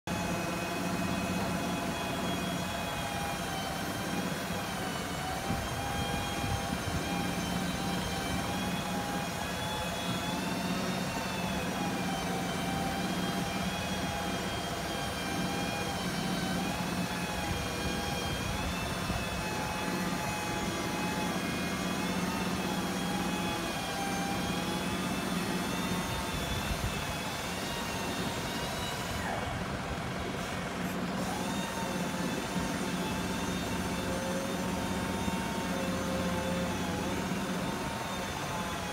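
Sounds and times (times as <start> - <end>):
hydraulic whine: 0.1 - 38.9
diesel engine running: 3.6 - 38.9.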